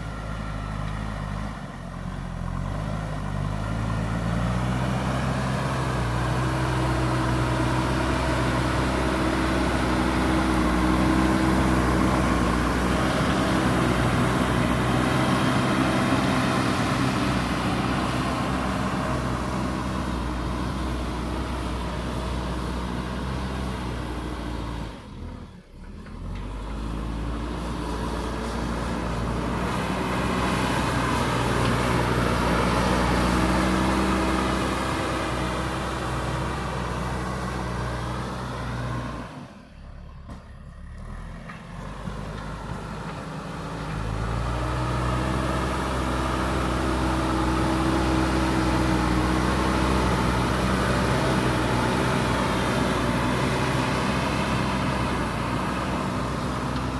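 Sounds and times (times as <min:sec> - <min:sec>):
backhoe diesel engine working: 0:00.0 - 0:56.9.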